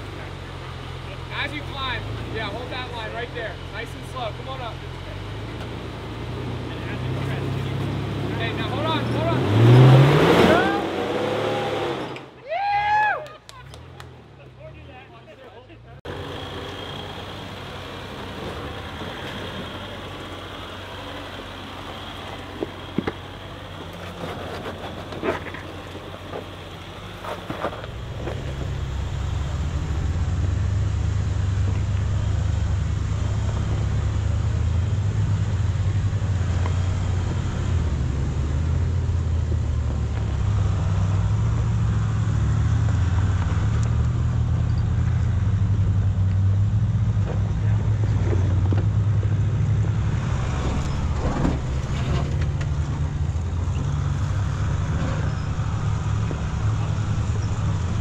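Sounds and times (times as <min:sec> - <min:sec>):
off-road vehicle engine rumble: 0:00.0 - 0:58.0.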